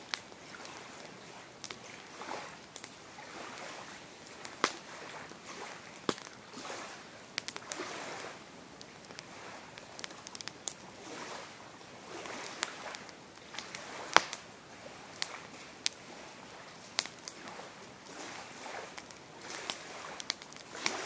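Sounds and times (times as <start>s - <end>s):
burning wood crackling and popping: 0.0s - 21.0s
soft steady fire hiss: 0.0s - 21.0s.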